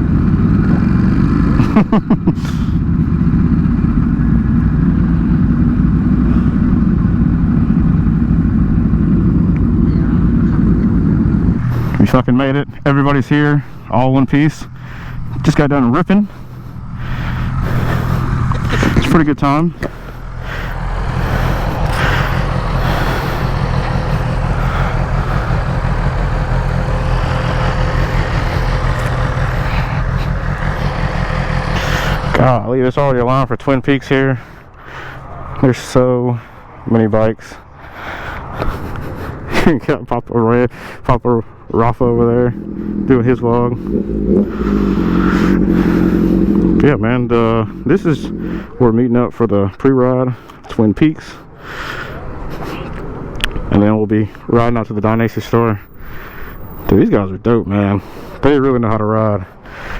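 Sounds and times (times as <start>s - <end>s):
motorcycle engines idling: 0.0s - 59.9s.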